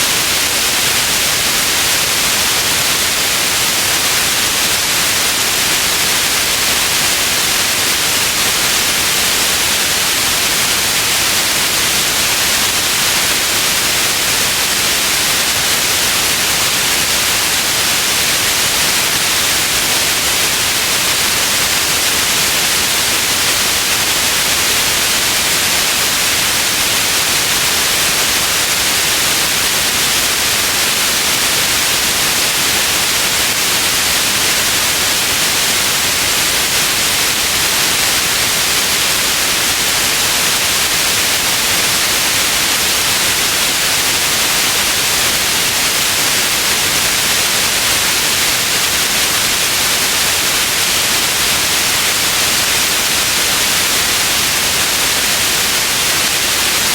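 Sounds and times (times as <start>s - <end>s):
loud white noise hiss: 0.0s - 56.9s.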